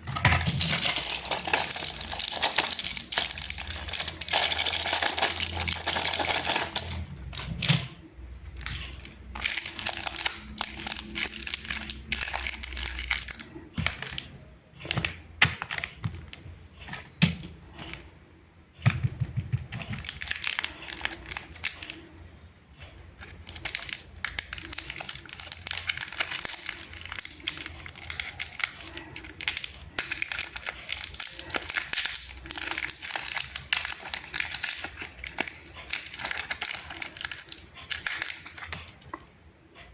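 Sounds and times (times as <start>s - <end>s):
plastic wrappers crinkling and tearing: 0.2s - 18.1s, 19.8s - 22.4s, 23.1s - 39.2s.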